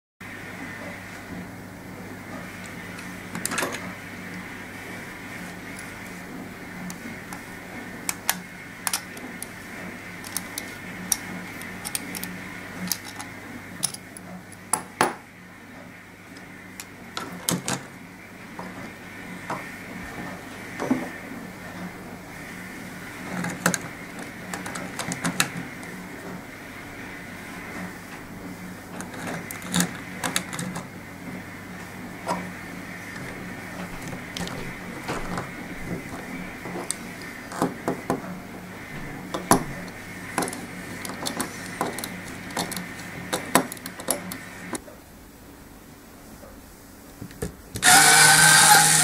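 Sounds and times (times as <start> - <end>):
steady low hum: 0.2 - 49.0.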